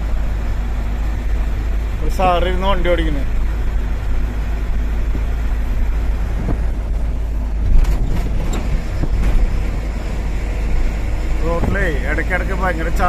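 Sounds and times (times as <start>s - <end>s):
truck diesel engine and road noise: 0.0s - 13.0s.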